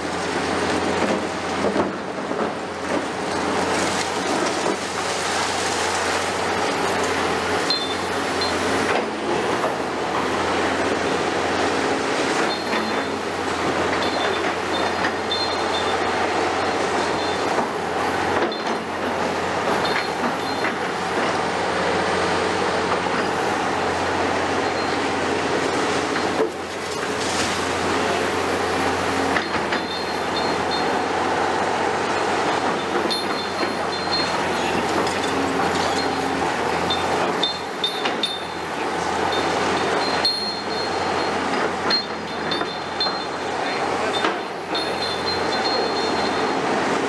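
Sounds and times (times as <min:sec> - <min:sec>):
excavator engine and hydraulics: 0:00.0 - 0:47.0.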